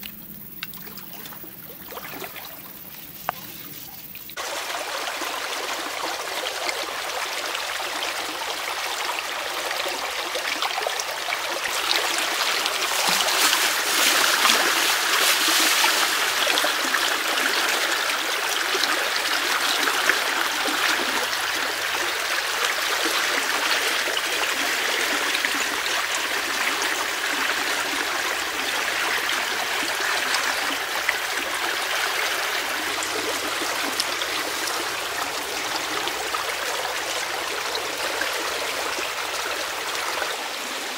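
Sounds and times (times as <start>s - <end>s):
stream rushing: 4.3s - 40.9s.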